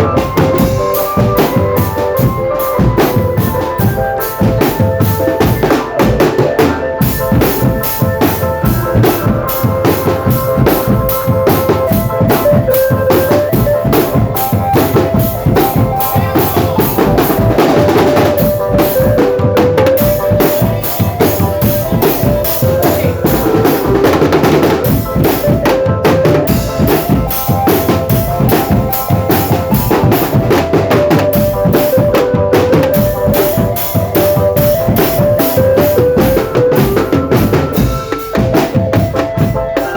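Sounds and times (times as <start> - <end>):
melody over drumming: 0.0 - 39.9
snare and bass drums: 0.0 - 39.9.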